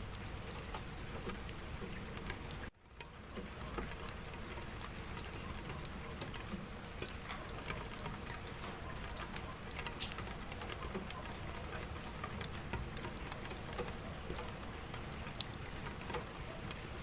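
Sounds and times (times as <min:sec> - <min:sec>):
raindrops ticking on hard surface: 0:00.0 - 0:17.0
steady rain: 0:00.0 - 0:17.0.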